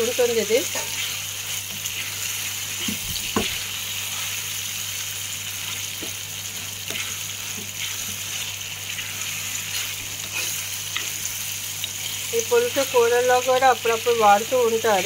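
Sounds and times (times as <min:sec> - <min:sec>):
paste sizzling in hot oil: 0:00.0 - 0:15.0.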